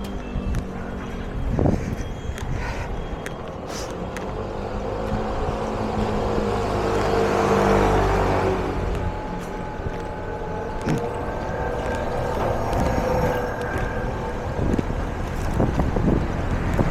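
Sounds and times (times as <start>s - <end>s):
vehicle engine and tyres passing: 0.0s - 16.9s.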